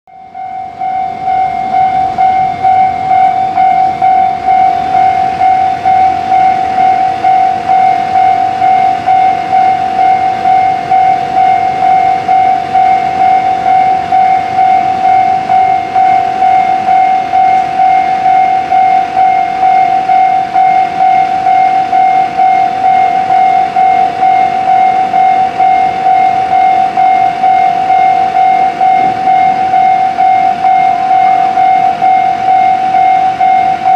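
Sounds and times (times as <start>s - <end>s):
level crossing warning bell: 0.1s - 33.9s.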